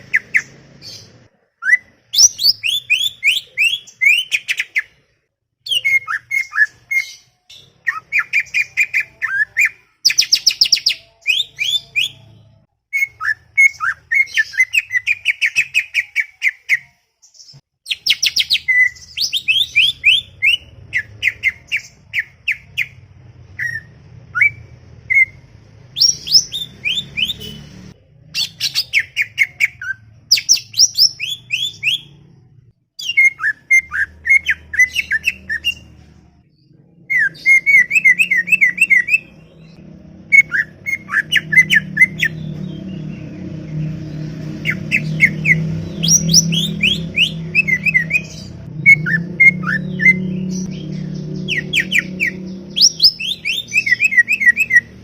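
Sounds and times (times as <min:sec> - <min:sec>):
bird singing chattering song: 0:00.0 - 0:04.9, 0:05.6 - 0:55.0.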